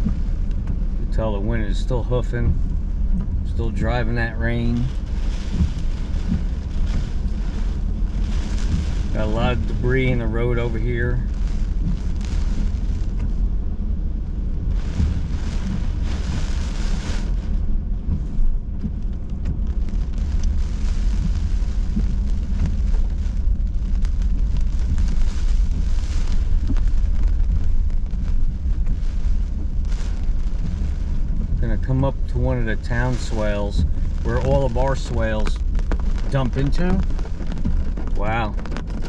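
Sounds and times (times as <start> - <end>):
rain hissing against car: 0.0 - 39.0
wind and driving rumble: 0.0 - 39.0.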